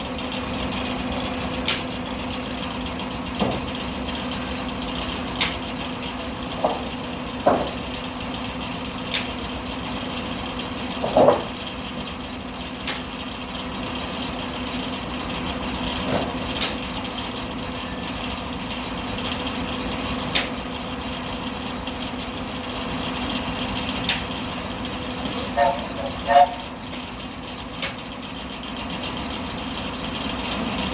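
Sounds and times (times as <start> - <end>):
sawmill machinery humming: 0.0 - 30.9.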